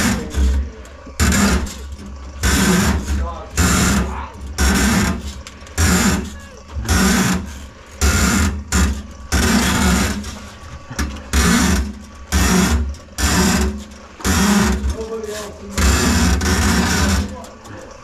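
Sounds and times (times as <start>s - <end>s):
drain-cleaning machine motor humming: 0.0s - 18.0s.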